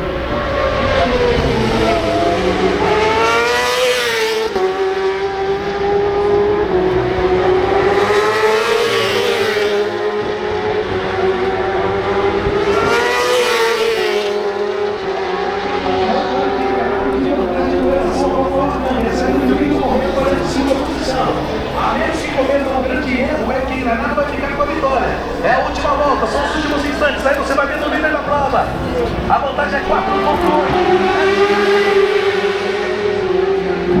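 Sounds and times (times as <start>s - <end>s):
superbike engines at high revs: 0.0s - 34.0s.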